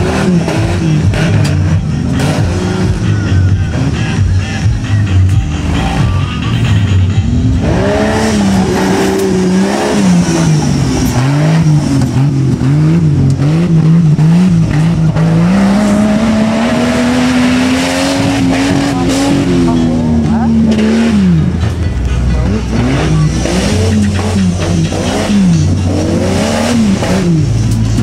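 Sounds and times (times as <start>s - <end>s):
buggy engine revving: 0.0s - 28.0s.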